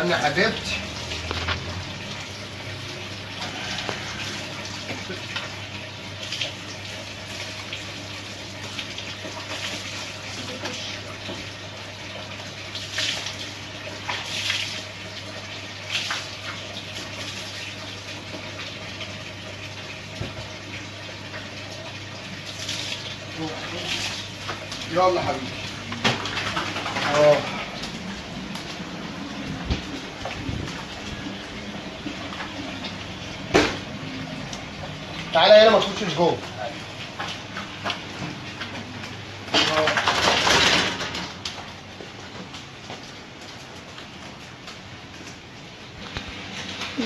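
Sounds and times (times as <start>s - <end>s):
water splashing on tiled floor: 0.0s - 47.0s.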